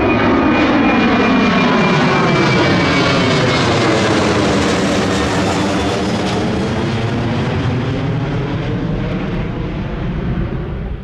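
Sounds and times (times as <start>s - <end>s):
jet airliner passing: 0.0s - 11.0s.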